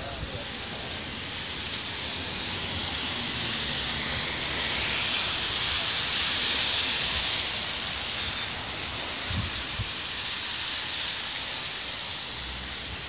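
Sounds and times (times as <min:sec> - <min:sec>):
rain hissing: 0:00.0 - 0:13.0
traffic on wet roads: 0:00.0 - 0:13.0.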